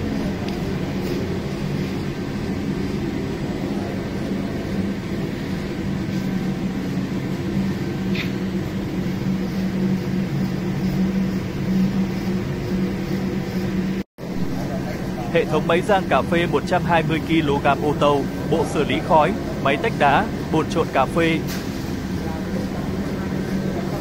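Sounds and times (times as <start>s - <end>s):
coffee roaster motor hum: 0.0s - 24.0s.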